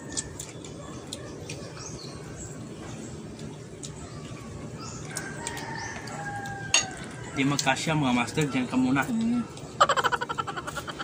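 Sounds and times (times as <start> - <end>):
quiet eating sounds: 0.0 - 11.0.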